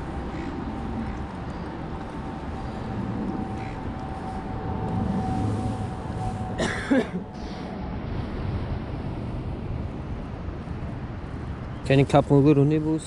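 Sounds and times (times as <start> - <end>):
city background noise: 0.0 - 13.0.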